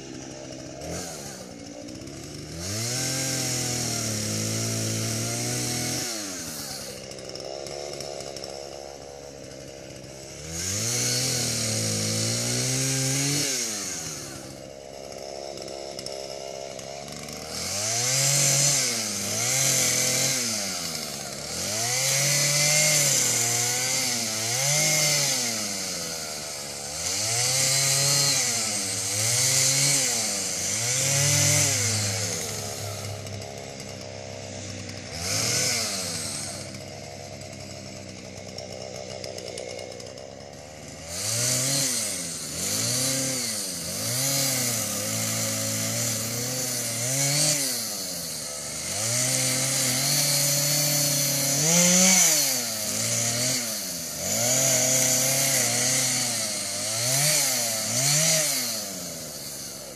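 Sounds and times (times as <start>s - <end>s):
chainsaw idling: 0.0s - 59.9s
chainsaw revving and cutting: 0.0s - 59.9s.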